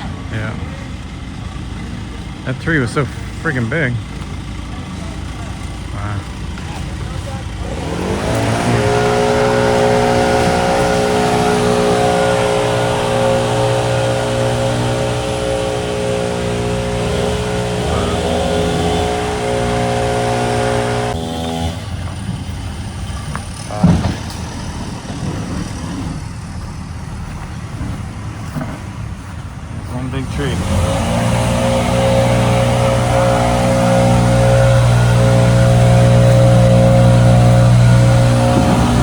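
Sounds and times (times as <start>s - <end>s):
diesel engine running: 0.0s - 39.0s
rough machinery rumble: 0.0s - 39.0s.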